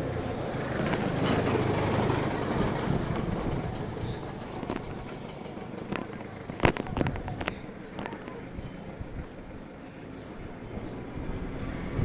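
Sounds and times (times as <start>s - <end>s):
passing vehicle engine rumble: 0.0s - 12.0s
road noise: 0.0s - 12.0s.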